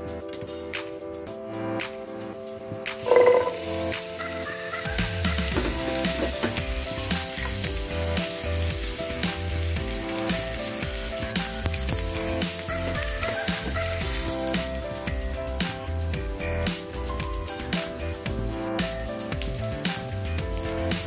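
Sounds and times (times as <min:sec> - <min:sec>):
food sizzling in hot oil: 0:03.0 - 0:21.0.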